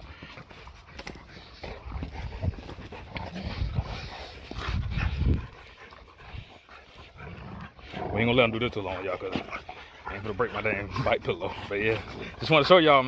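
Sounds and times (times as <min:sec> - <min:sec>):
dogs panting: 0:00.0 - 0:13.0
scuffling and tugging: 0:00.0 - 0:13.0.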